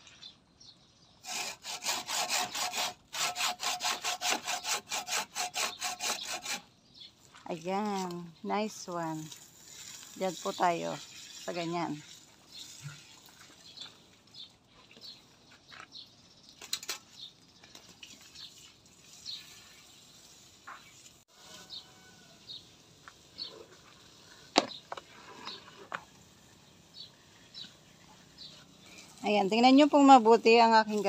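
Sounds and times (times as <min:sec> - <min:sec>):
small birds chirping: 0:00.0 - 0:01.2, 0:05.7 - 0:31.0.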